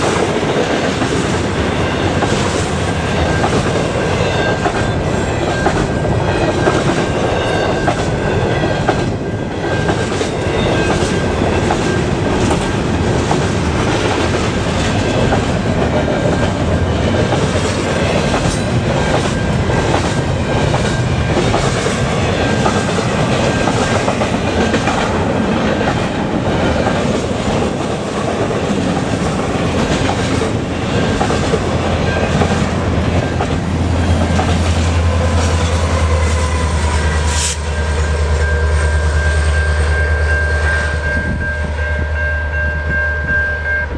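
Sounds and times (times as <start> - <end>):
train wheels clicking over rail joints: 0.0 - 38.2
diesel locomotive rumble: 0.0 - 43.9.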